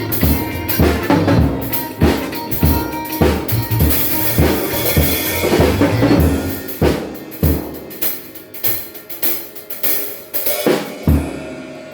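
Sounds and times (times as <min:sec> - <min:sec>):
snare drum hits: 0:00.0 - 0:11.2.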